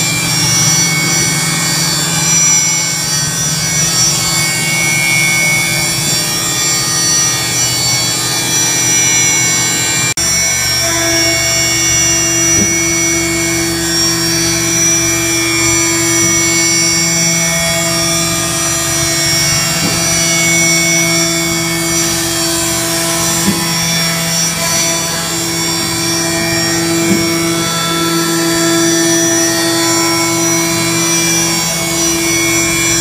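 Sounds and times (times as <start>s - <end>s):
milling machine whine: 0.0s - 33.0s.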